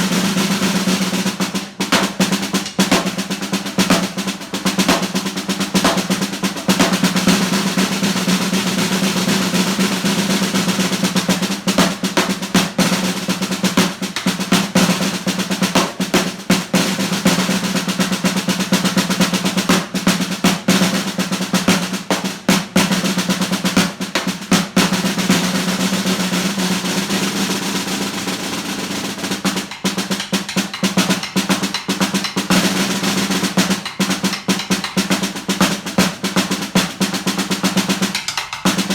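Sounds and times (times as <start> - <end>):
snare drum rolls: 0.0 - 38.9.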